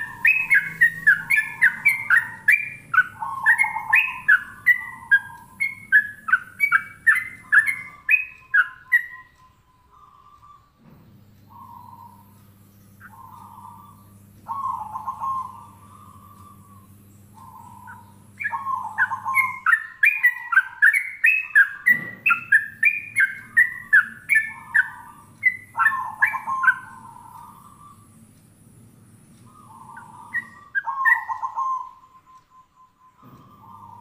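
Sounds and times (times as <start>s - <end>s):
loud rising bird chirps: 0.0s - 10.8s, 11.4s - 28.4s, 29.1s - 34.0s
soft trilled bird notes: 0.0s - 34.0s.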